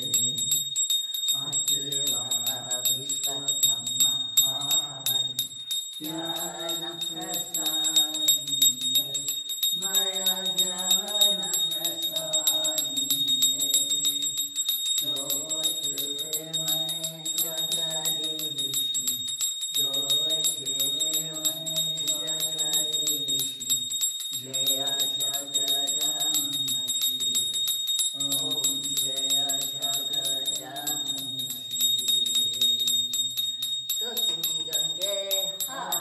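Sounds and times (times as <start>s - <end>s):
hand bell ringing rapidly: 0.0s - 36.0s
person singing devotional song: 0.0s - 36.0s.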